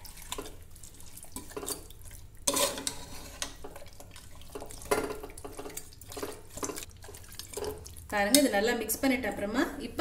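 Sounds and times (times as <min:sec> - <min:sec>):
metal spoon stirring in pot: 0:00.0 - 0:08.7.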